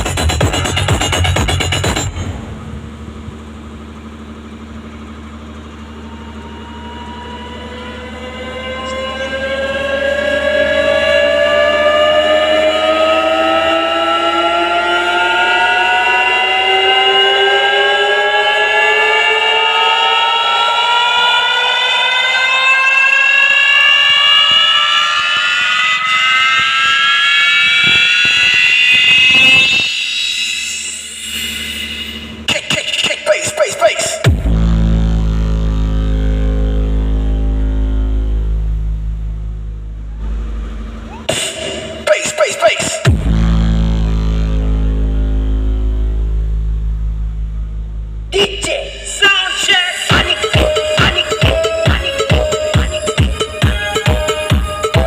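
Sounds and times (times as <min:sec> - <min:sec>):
electronic dance music: 0:00.0 - 0:02.3, 0:08.6 - 0:39.1, 0:41.1 - 0:46.9, 0:48.3 - 0:55.0
steady low drone: 0:00.0 - 0:32.6, 0:34.2 - 0:42.1, 0:43.0 - 0:55.0
rising siren-like tones: 0:05.4 - 0:32.5, 0:34.2 - 0:42.1, 0:43.0 - 0:55.0.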